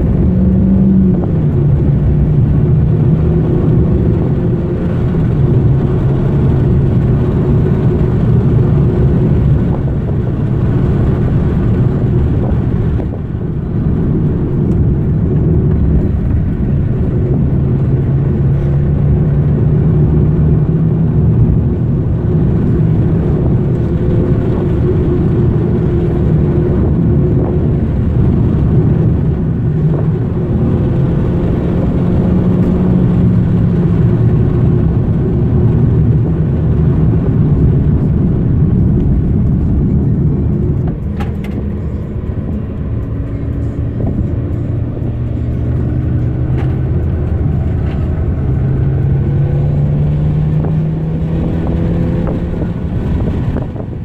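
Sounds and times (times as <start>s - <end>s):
car engine pulling: 0.0s - 54.0s
tyre and road rumble: 0.0s - 54.0s.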